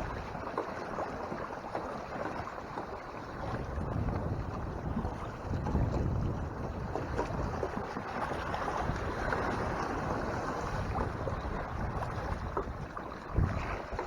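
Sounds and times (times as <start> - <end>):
water splashing along a hull: 0.0 - 14.0
wind buffeting microphone: 0.0 - 14.0.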